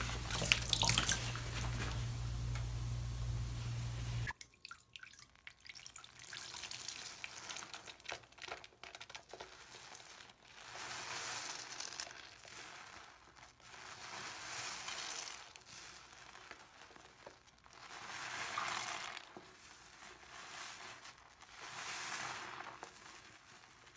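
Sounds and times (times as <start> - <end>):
wet sponge squeezed squishing: 0.0 - 3.0, 4.0 - 23.9.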